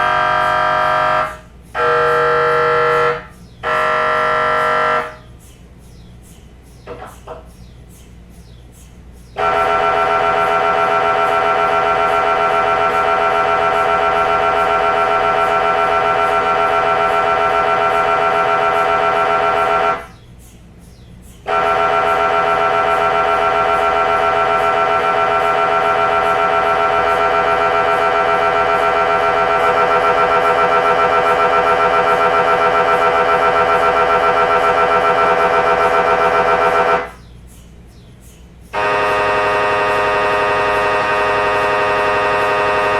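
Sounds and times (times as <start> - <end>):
mri scanner buzzing: 0.0 - 5.2, 9.4 - 20.2, 21.5 - 37.2, 38.8 - 42.9.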